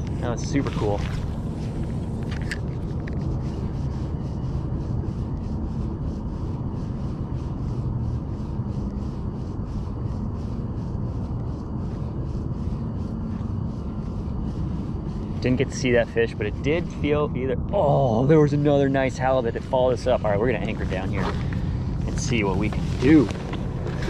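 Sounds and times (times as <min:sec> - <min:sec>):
faint fast ticking: 0:00.0 - 0:24.0
wind rumbling on microphone: 0:00.0 - 0:24.0.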